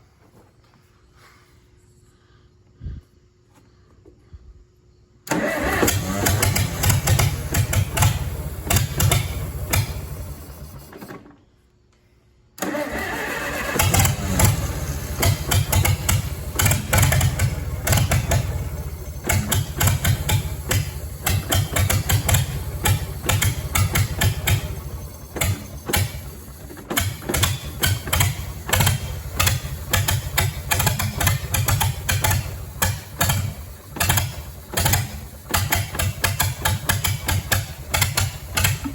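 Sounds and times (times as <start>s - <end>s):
tractor engine running roughly: 5.3s - 11.2s, 12.6s - 38.9s.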